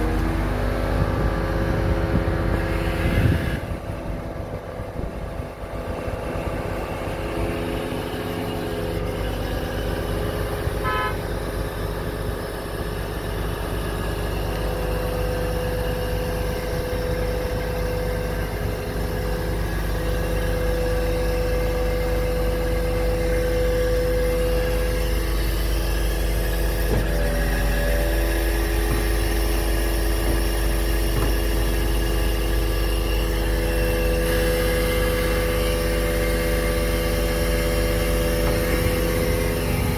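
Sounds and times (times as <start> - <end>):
crane hydraulics whining: 0.0 - 39.9
truck engine running: 0.0 - 39.9.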